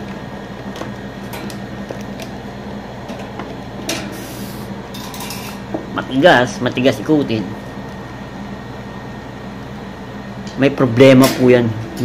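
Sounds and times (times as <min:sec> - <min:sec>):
fan blade turned by hand whirring: 0:00.0 - 0:12.0
steady low hum: 0:00.0 - 0:12.0.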